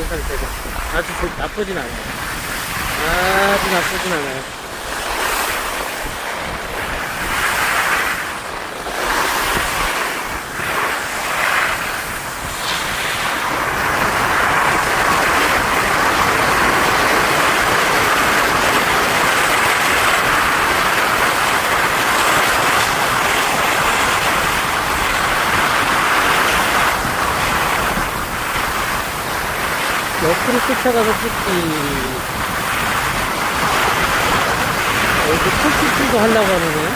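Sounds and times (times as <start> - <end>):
wind on microphone: 0.0 - 30.4, 31.0 - 36.9
skis scraping over snow: 0.0 - 36.9.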